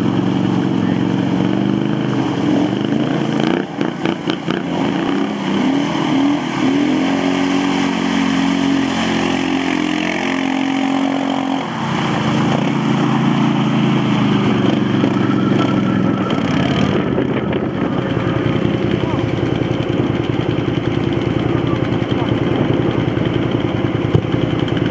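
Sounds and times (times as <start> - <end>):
quad bike engine revving: 0.0 - 24.9
several quad bikes running: 0.0 - 24.9.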